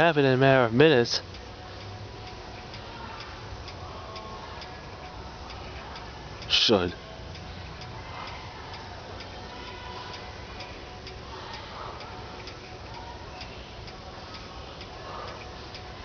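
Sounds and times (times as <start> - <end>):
faint regular ticking: 0.0 - 16.0.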